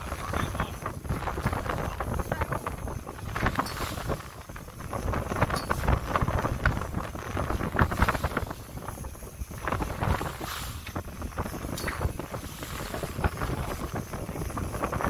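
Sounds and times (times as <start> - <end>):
boat moving through choppy sea: 0.0 - 15.0
wind buffeting microphone: 0.0 - 15.0.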